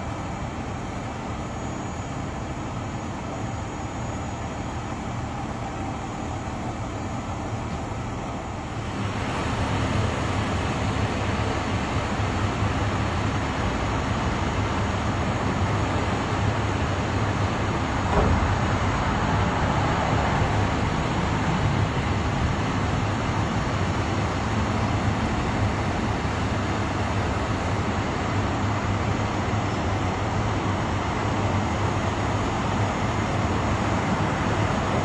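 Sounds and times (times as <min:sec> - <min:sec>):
street noise: 0:00.0 - 0:35.0
vehicle engines idling: 0:00.0 - 0:35.0.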